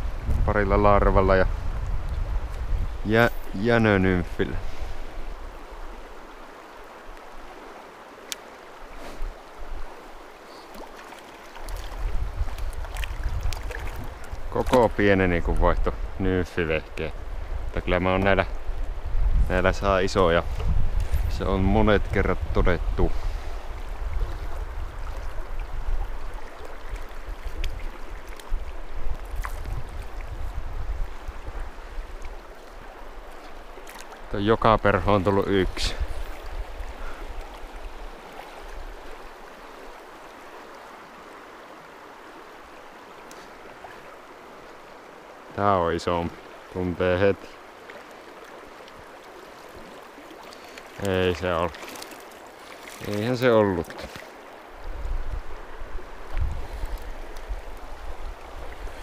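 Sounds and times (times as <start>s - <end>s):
river water running: 0.0s - 59.0s.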